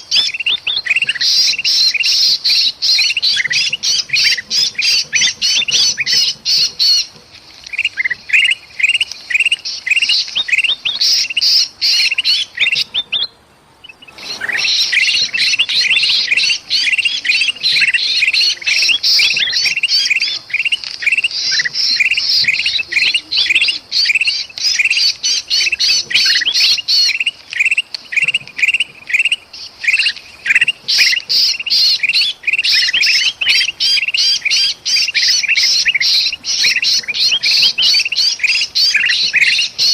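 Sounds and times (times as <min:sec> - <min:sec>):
bird distress calls: 0:00.0 - 0:39.9
bulbuls chattering: 0:00.0 - 0:39.9.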